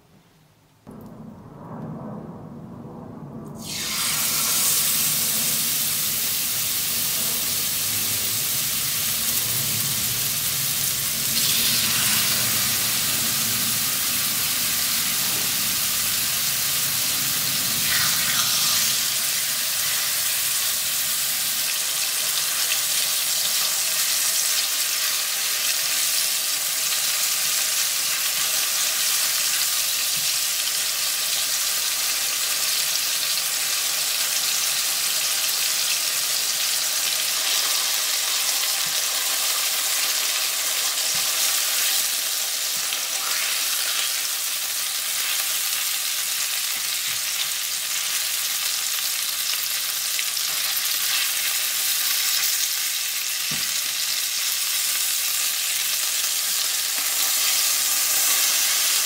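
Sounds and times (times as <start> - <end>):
chicken sizzling in frying pan: 3.6 - 59.0.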